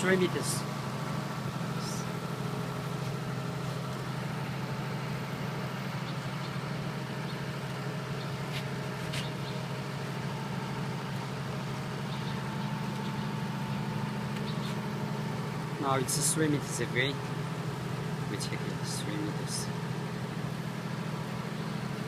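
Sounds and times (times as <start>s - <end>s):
diesel generator hum: 0.0s - 22.0s.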